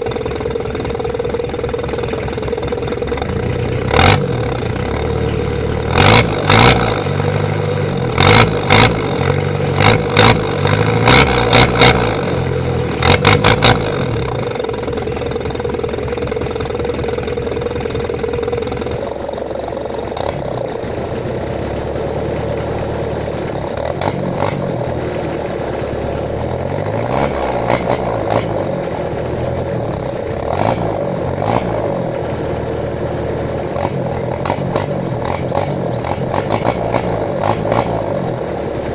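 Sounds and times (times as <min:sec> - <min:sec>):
diesel engine barking: 0:00.0 - 0:38.9
diesel engine running: 0:00.0 - 0:38.9.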